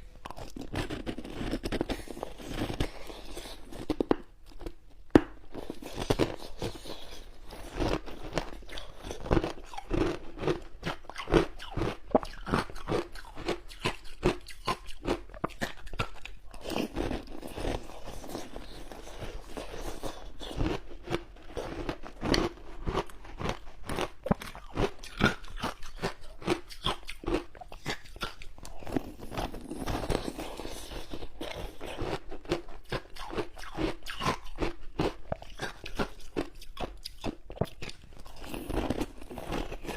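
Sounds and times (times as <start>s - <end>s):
crunching and chewing shaved ice: 0.0s - 4.8s, 5.4s - 39.9s.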